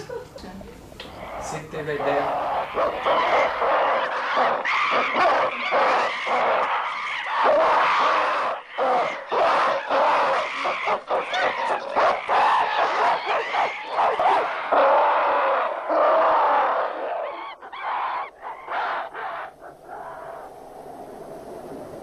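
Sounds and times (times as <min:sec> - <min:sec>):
apes screeching and hooting: 0:01.0 - 0:20.6.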